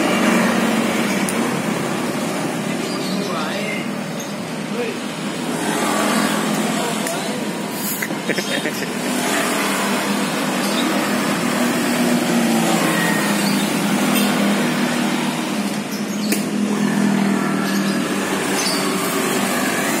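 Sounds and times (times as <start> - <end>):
engine hum with hiss: 0.0 - 20.0.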